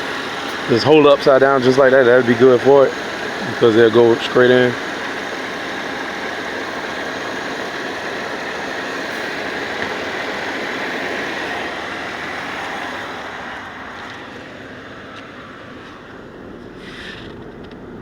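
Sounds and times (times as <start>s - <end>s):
refrigerant hissing through hose: 0.0s - 14.8s, 16.7s - 17.4s
car engine running: 0.0s - 18.0s.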